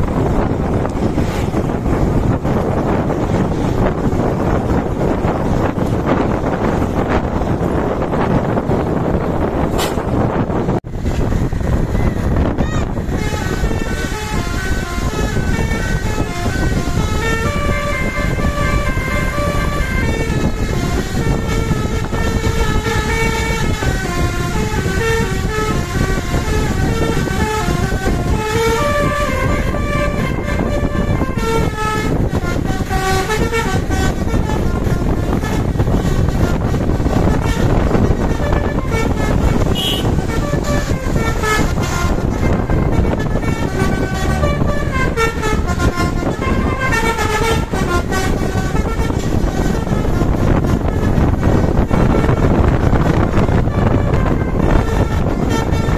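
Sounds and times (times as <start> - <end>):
engine and road rumble: 0.0 - 55.9
musical bus horn tune: 0.0 - 55.9.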